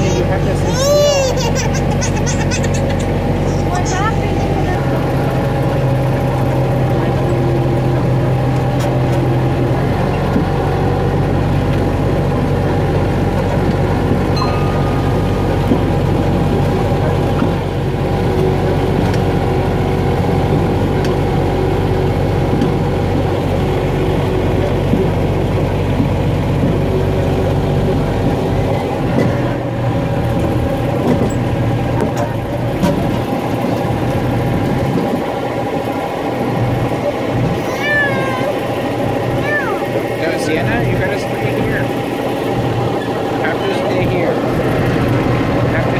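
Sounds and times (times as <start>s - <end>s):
small train engine running: 0.0s - 45.9s.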